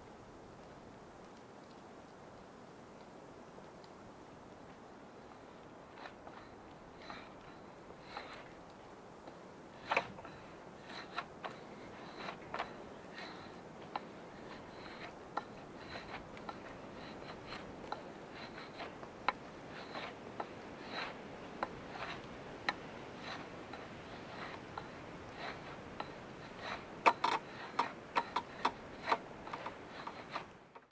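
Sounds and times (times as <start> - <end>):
knife shaving wooden stick: 5.6 - 30.9.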